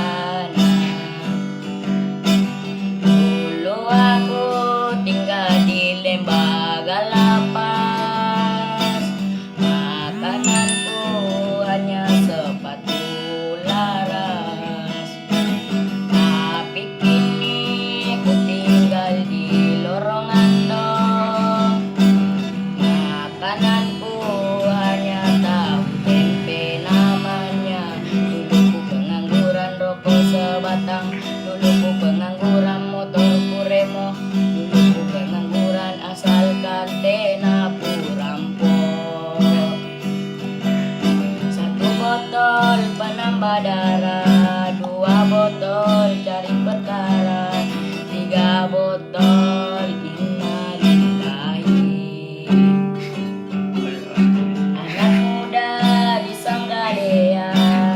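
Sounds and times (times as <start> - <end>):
person singing: 0.0 - 1.4, 2.9 - 57.9
strummed acoustic guitar: 0.0 - 57.9.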